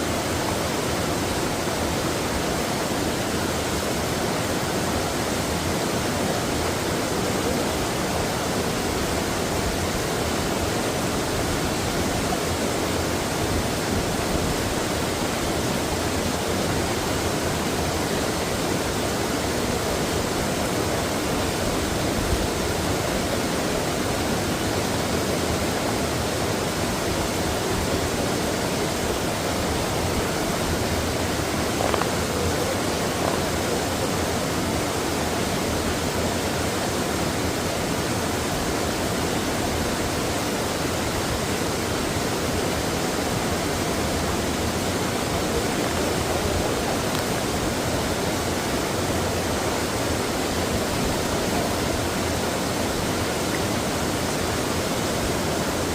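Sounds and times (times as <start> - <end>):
water rushing over rocks: 0.0 - 55.9.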